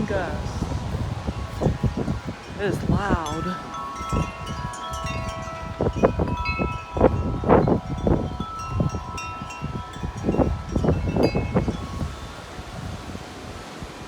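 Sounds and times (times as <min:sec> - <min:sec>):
metal wind chimes clanging: 0:00.0 - 0:13.9
wind buffeting microphone: 0:00.0 - 0:14.0.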